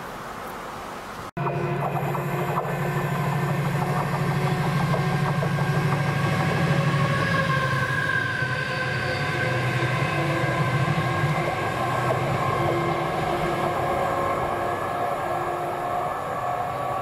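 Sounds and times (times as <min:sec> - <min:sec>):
diesel locomotive engine drone: 0:01.4 - 0:17.0.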